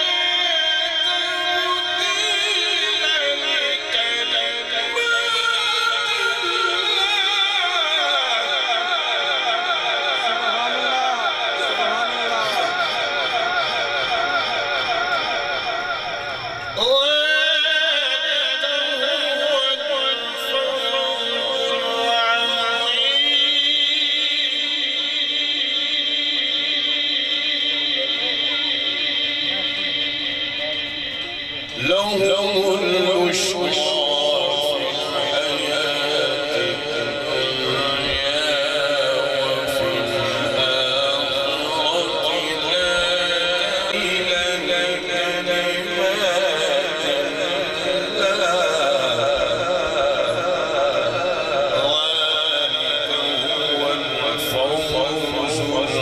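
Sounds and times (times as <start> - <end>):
man chanting through loudspeaker: 0.0 - 56.0.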